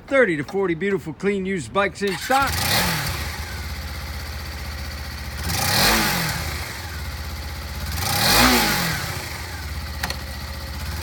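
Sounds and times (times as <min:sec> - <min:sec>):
motorcycle engine idling and revving: 0:02.1 - 0:11.0.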